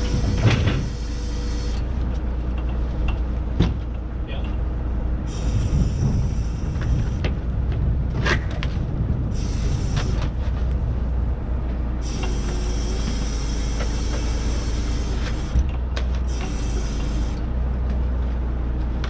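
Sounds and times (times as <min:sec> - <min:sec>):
heavy engine running: 0:00.0 - 0:19.0.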